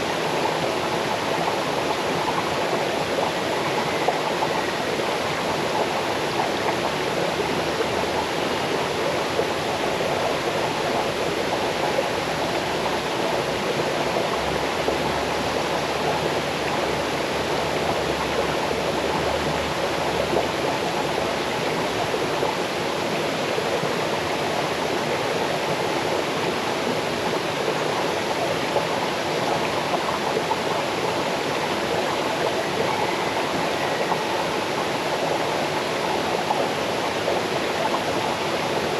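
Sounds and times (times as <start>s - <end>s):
waterfall rushing into stream: 0.0s - 38.9s.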